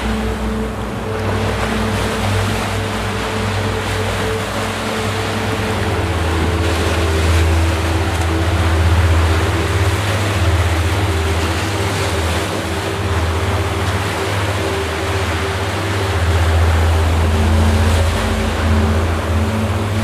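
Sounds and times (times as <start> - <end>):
constant low hum: 0.0 - 20.0
ocean surf washing up beach: 0.0 - 20.0.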